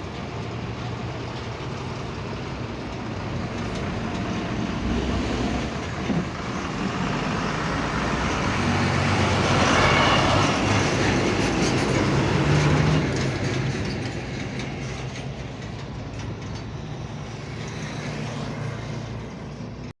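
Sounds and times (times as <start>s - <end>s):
heavy truck engine passing: 0.0s - 19.9s
tyre and road noise: 0.0s - 19.9s.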